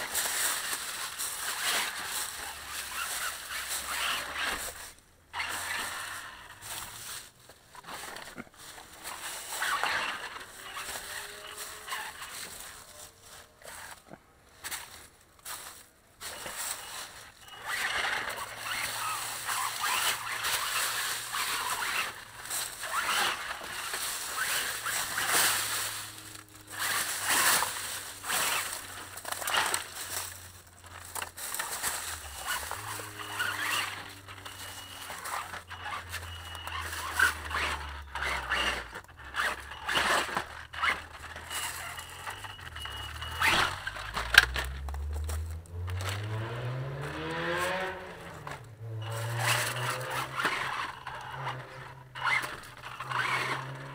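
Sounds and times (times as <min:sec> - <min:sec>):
tyres crunching through leaves: 0:00.0 - 0:53.9.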